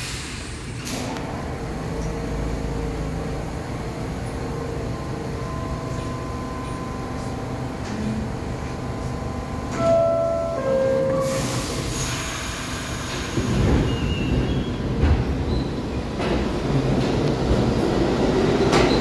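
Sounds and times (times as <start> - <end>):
subway train equipment hum: 0.0 - 19.0.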